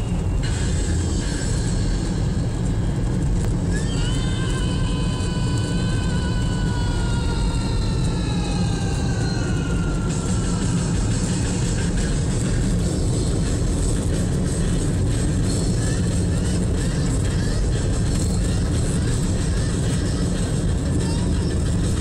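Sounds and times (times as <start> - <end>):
gravel road rumble: 0.0 - 22.0.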